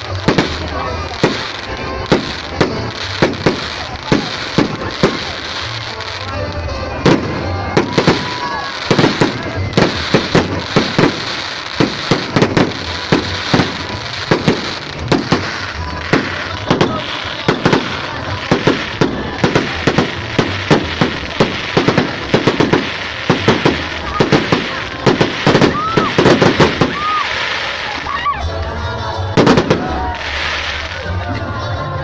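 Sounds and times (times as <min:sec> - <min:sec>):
firework bangs: 0:00.0 - 0:28.4, 0:29.3 - 0:31.2
firework crackling: 0:00.0 - 0:31.6.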